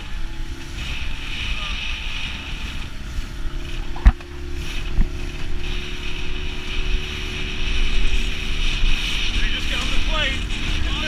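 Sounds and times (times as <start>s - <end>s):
boat engine drone: 0.0s - 11.0s
hull slapping a wave: 0.0s - 11.0s
water rushing: 0.0s - 11.0s
wind: 0.0s - 11.0s.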